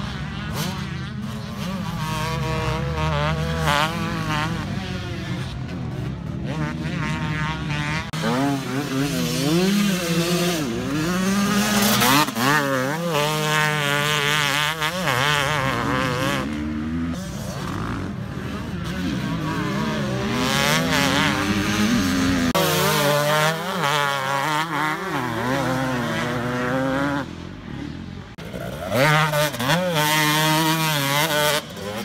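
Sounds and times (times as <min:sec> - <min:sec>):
motocross bike engines revving: 0:00.0 - 0:32.0.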